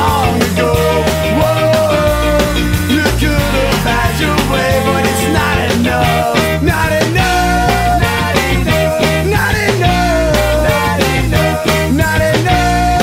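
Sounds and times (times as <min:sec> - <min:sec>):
ska-punk band playing: 0:00.0 - 0:13.0.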